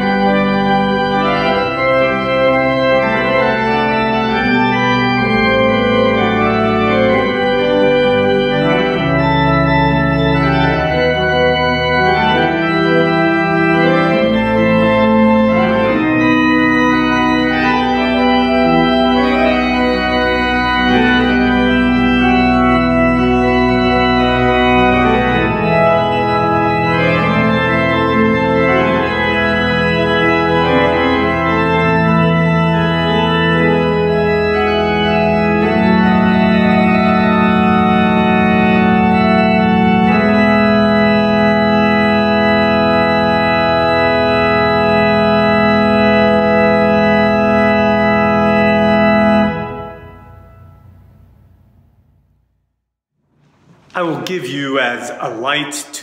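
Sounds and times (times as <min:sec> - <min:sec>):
pipe organ sustained chords: 0:00.0 - 0:52.4
deep organ pedal note: 0:00.0 - 0:52.5.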